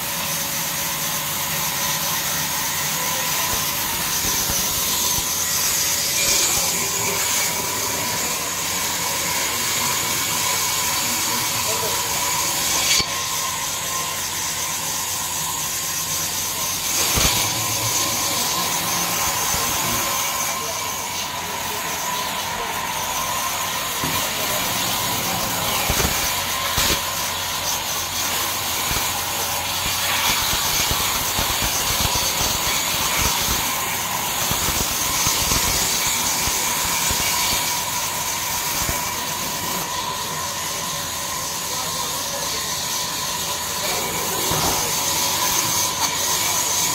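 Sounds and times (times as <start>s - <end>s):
band saw whining: 0.0s - 46.9s.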